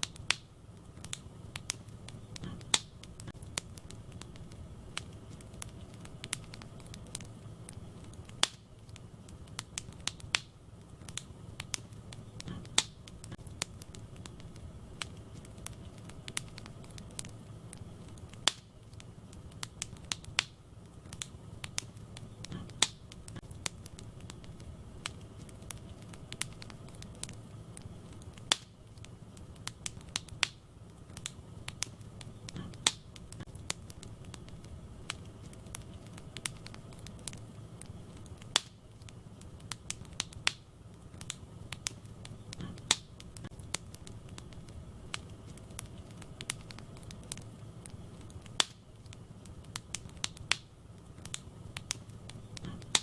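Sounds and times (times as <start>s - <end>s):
fire flames rumbling: 0.0s - 53.0s
logs crackling and popping: 0.0s - 53.0s.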